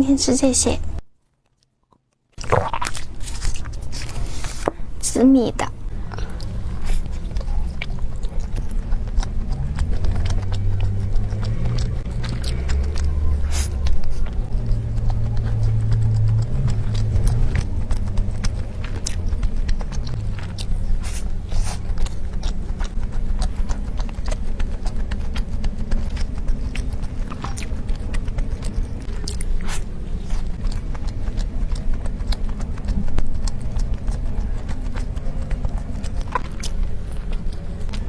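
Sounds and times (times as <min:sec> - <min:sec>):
chewing soft cake: 0:01.4 - 0:04.8, 0:05.9 - 0:38.0
mouth clicks and smacks: 0:01.8 - 0:03.9, 0:05.9 - 0:38.0.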